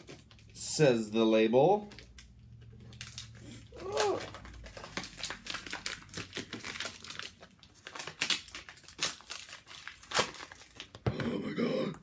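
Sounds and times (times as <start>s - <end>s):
packaging crinkling and rustling: 0.0s - 0.6s, 1.8s - 11.0s.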